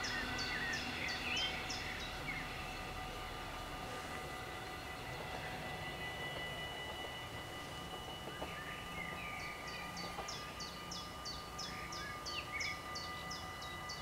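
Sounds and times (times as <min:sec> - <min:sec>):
songbird calling: 0:00.0 - 0:03.4, 0:04.4 - 0:14.0
faint high ringing tones: 0:00.0 - 0:14.0
low wind noise: 0:00.0 - 0:14.0.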